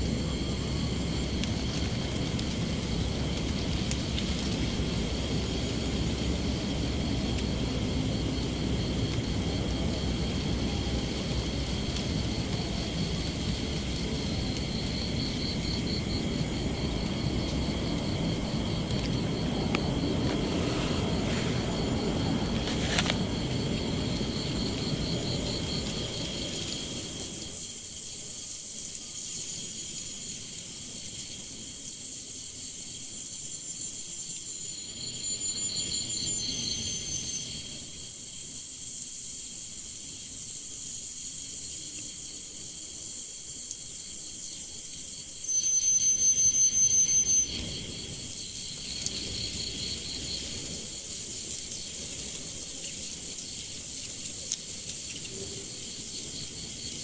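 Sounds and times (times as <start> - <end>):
insect chorus trilling: 0.0 - 57.0
loud high pulsed insect call: 0.0 - 57.0.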